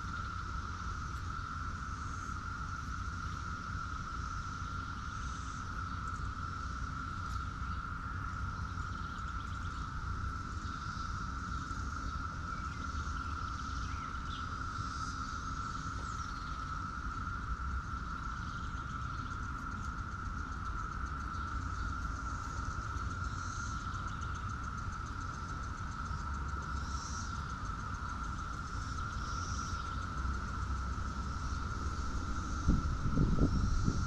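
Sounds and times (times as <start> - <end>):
constant low rumble: 0.0 - 34.0
insect drone: 0.0 - 34.0.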